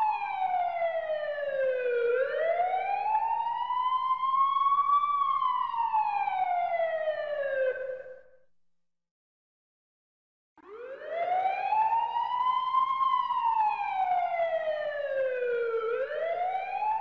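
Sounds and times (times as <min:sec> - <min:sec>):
ambulance siren wailing: 0:00.0 - 0:08.2, 0:10.6 - 0:17.0.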